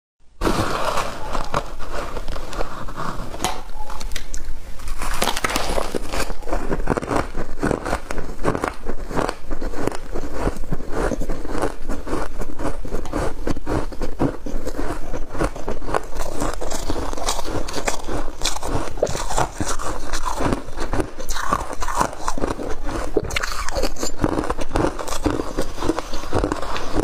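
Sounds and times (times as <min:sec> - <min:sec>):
ice crunching in mouth: 0:00.4 - 0:27.0.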